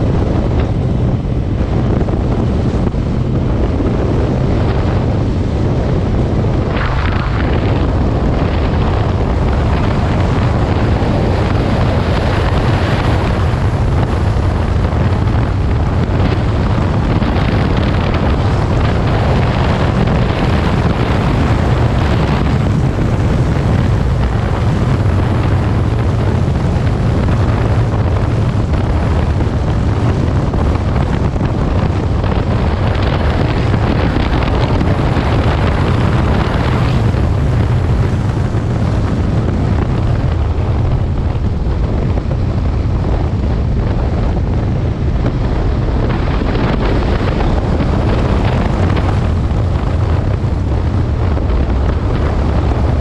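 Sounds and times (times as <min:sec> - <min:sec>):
motorcycle engine drone: 0:00.0 - 0:53.0
wind noise on microphone: 0:00.0 - 0:53.0.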